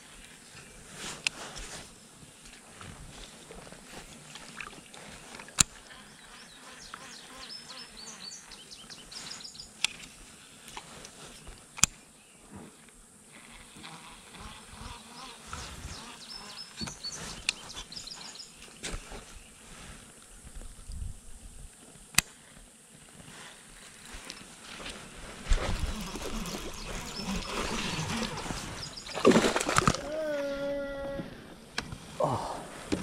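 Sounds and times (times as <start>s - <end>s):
low outdoor hiss: 0.0s - 33.0s
insects chirping in trills: 4.5s - 10.7s, 11.3s - 32.7s.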